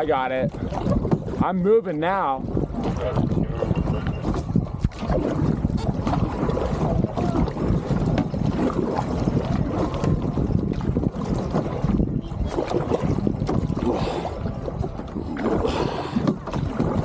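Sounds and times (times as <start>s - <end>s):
water sloshing: 0.0s - 17.0s
wind buffeting microphone: 0.0s - 17.0s.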